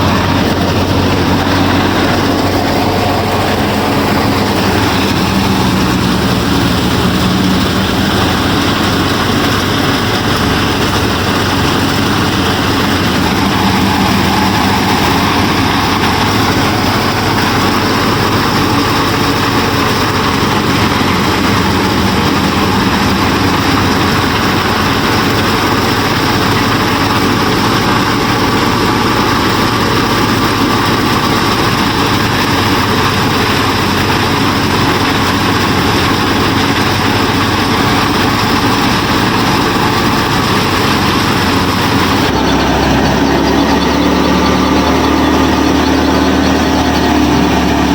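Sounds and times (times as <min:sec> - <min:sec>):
harvester engine droning: 0:00.0 - 0:47.9.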